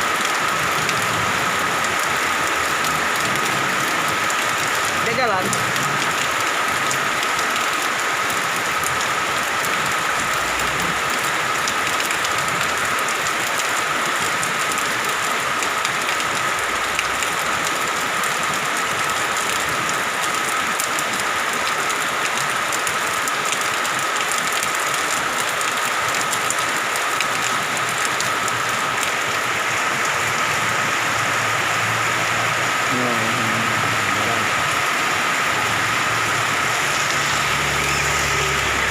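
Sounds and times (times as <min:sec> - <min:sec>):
rain downpour: 0:00.0 - 0:38.9.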